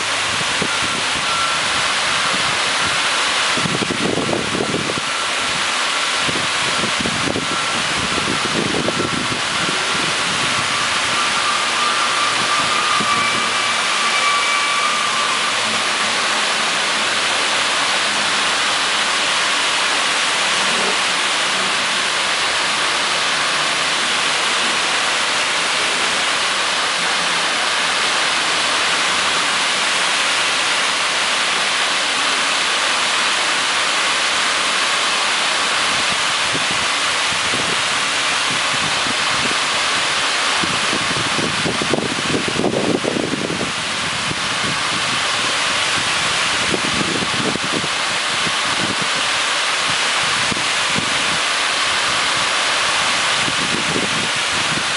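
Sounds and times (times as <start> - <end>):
fountain water rushing: 0.0 - 54.9.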